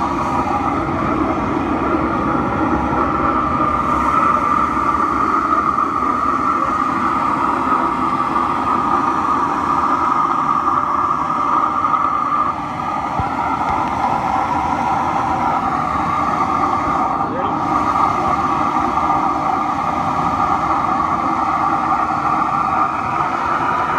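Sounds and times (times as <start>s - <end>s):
constant whine: 0.0s - 23.9s
furnace burner and blower roar: 0.0s - 23.9s.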